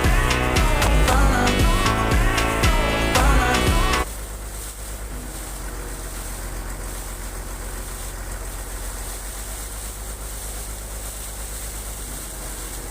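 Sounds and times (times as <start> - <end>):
compressor engine hum: 0.0 - 12.9.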